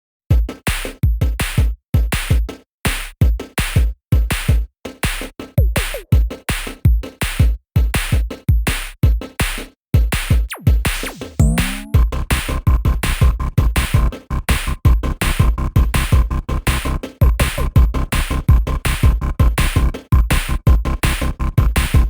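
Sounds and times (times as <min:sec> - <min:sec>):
drum machine beat: 0:00.3 - 0:22.0.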